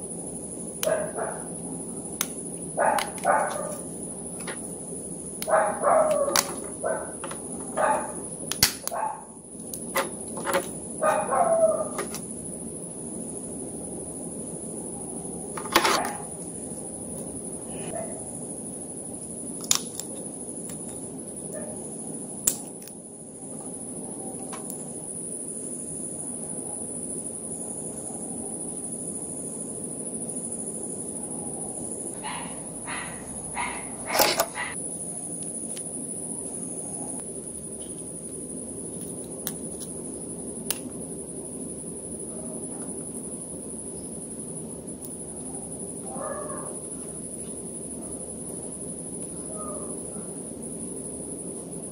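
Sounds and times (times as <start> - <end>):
faint high whine: 0.0 - 51.9.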